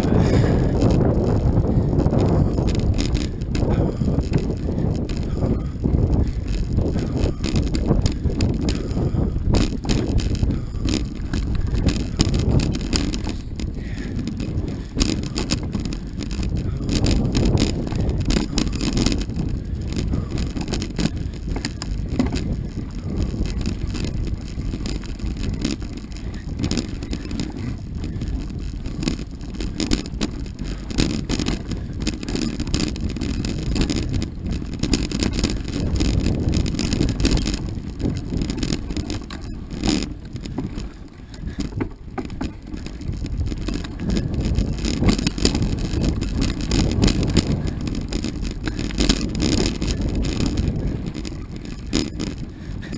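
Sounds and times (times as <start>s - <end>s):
bike clicking and rattling: 0.0s - 52.9s
bike tyres rumbling on dirt: 0.0s - 52.9s.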